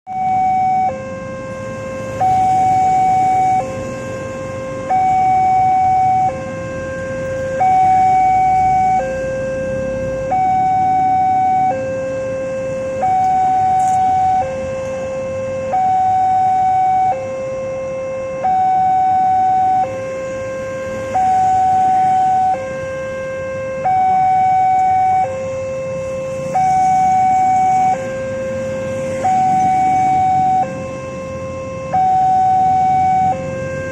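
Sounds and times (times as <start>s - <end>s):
two-tone level crossing alarm: 0.1s - 33.9s.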